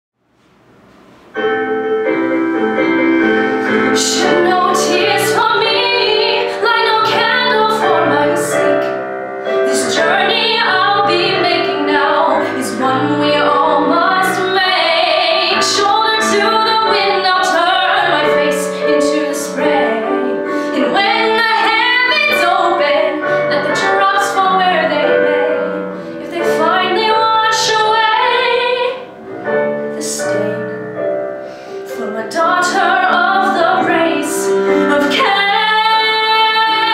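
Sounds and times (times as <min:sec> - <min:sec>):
piano accompaniment: 0:00.3 - 0:36.9
woman singing a ballad: 0:03.9 - 0:29.1, 0:29.9 - 0:30.9, 0:31.9 - 0:36.9.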